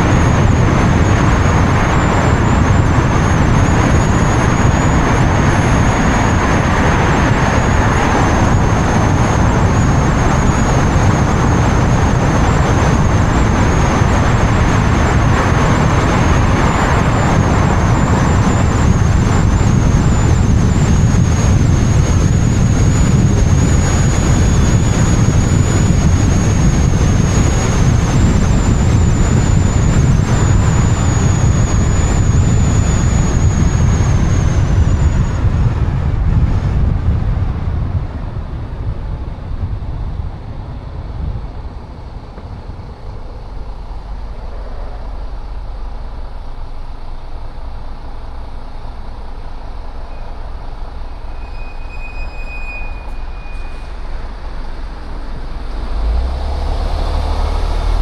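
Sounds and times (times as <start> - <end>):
thin high whine: 0.0 - 37.2, 38.7 - 58.0
wind and road rumble: 0.0 - 58.0.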